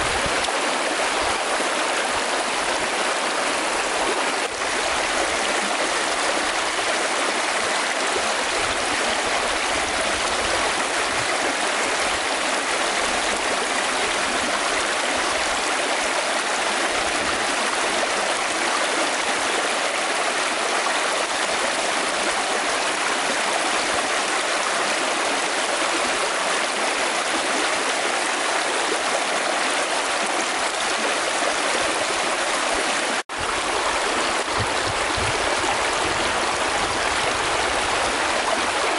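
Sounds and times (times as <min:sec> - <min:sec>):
stream rushing over stones: 0:00.0 - 0:38.9.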